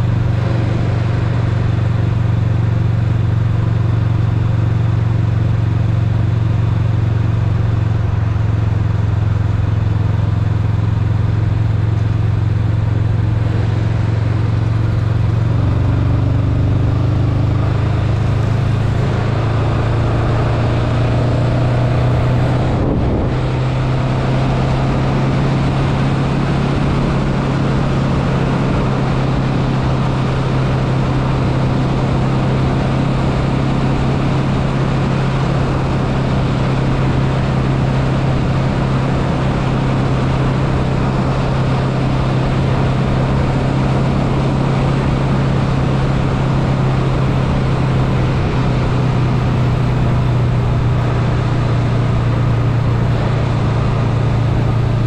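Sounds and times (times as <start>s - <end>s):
motorcycle engine cruising: 0.0s - 55.0s
wind and road rush: 0.0s - 55.0s.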